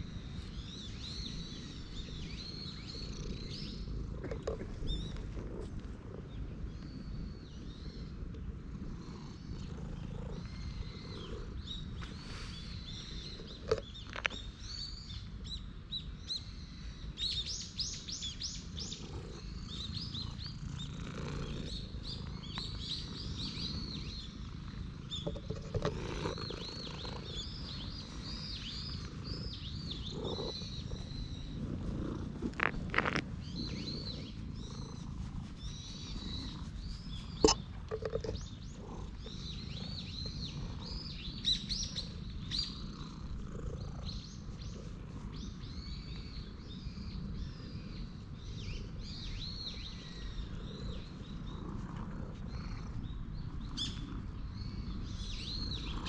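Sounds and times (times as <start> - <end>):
small birds chirping and singing: 0.0 - 56.0.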